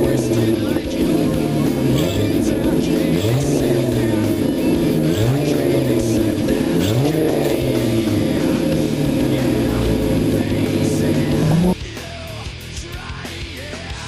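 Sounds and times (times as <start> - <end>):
car engine revving: 0.0 - 11.8
music: 0.0 - 14.0.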